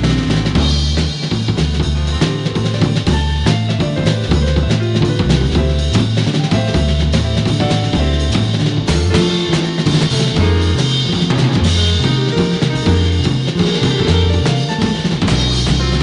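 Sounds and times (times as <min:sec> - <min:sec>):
bass line: 0:00.0 - 0:16.0
drum-kit beat: 0:00.0 - 0:16.0.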